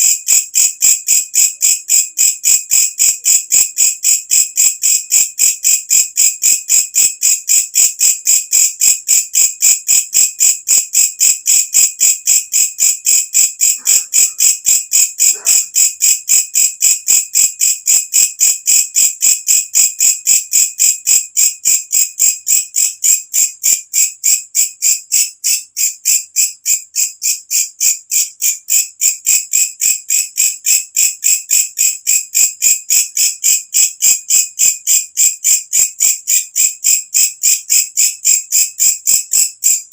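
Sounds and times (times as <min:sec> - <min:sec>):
katydid chirping: 0:00.0 - 0:39.9.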